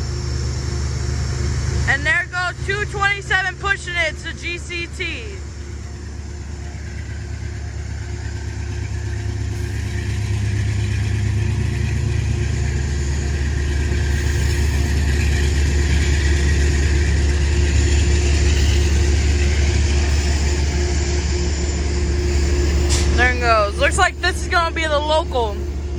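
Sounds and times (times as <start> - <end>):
locomotive engine drone: 0.0 - 25.9.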